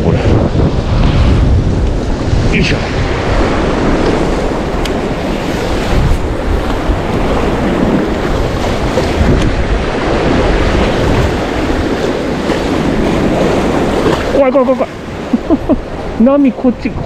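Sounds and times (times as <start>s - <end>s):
lake waves splashing on shore: 0.0s - 17.0s
wind buffeting microphone: 0.0s - 17.0s.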